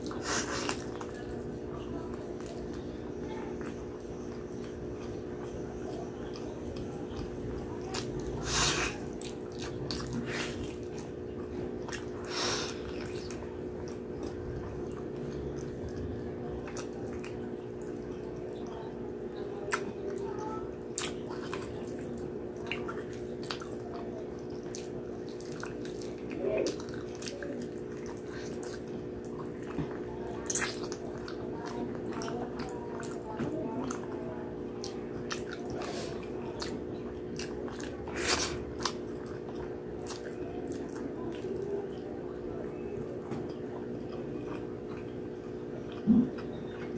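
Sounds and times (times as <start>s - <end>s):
steady low hum: 0.0s - 46.9s
wet chewing and lip-smacking: 0.0s - 46.9s.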